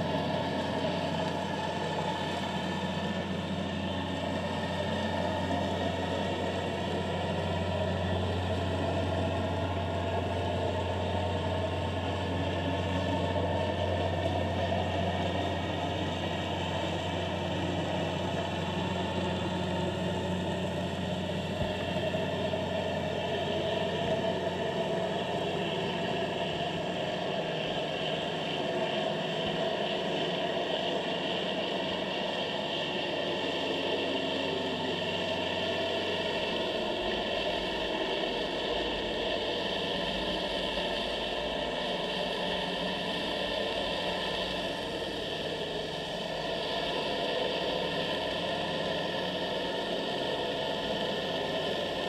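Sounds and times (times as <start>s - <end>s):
deep drone: 0.0s - 52.0s
mechanical hum with hiss: 0.0s - 52.0s.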